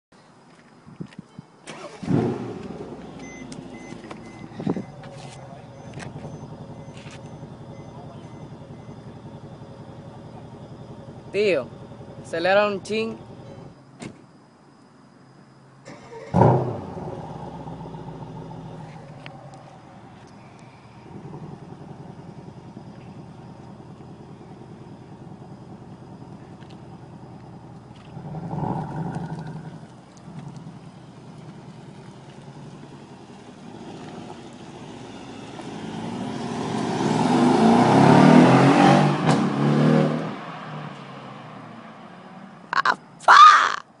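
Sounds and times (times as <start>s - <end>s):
car engine idling and revving: 0.5s - 13.8s, 15.9s - 43.2s.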